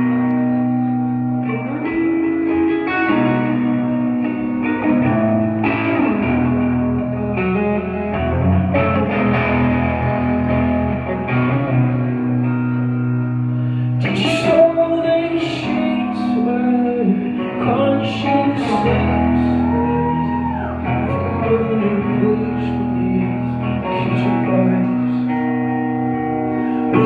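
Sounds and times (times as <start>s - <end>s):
bass guitar: 0.0s - 27.0s
electric guitar chords: 0.0s - 27.0s.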